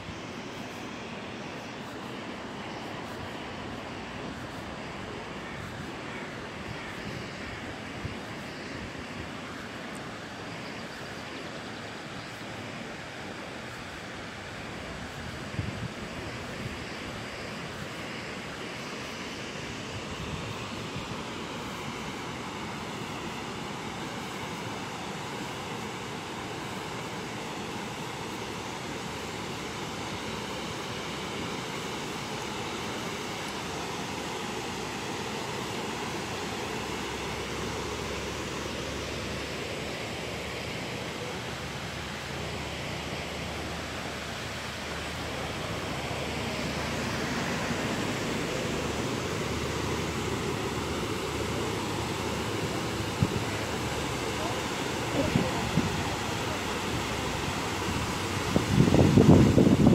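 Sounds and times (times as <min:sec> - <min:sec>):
river water rushing over weir: 0:00.0 - 0:59.9.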